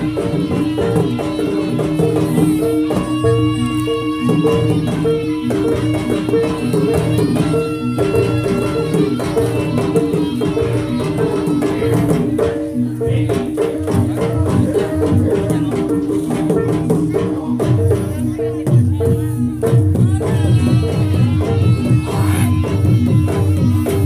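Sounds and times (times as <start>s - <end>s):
gamelan music: 0.0s - 24.0s.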